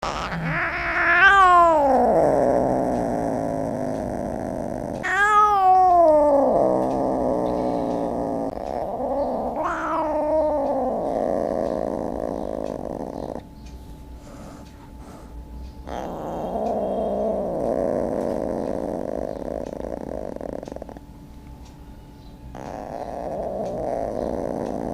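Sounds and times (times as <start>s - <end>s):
cat yowling: 0.0s - 13.4s, 15.9s - 21.0s, 22.6s - 24.9s.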